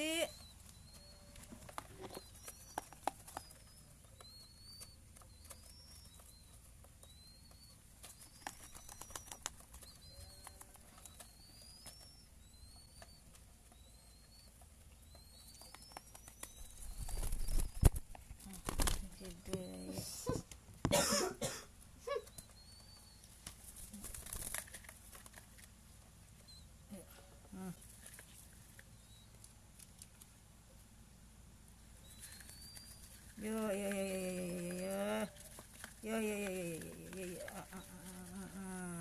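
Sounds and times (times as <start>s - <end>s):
bird chirping: 0.0s - 21.4s, 22.0s - 30.2s, 31.8s - 39.0s.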